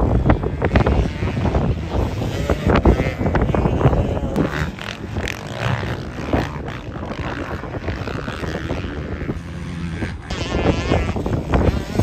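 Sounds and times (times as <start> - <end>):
motocross bike engines revving: 0.0 - 12.0
wind rumble on microphone: 0.0 - 12.0.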